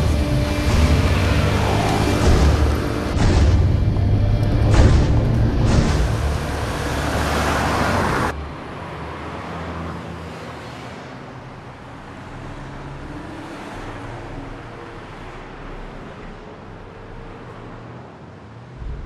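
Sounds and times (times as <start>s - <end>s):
car engine rumble: 0.0s - 8.8s, 11.8s - 19.0s
road noise: 0.0s - 19.0s.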